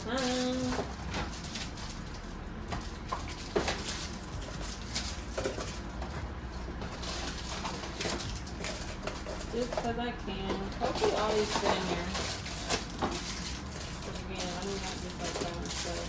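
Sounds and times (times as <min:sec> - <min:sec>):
plastic containers knocking and clicking: 0:00.1 - 0:16.0.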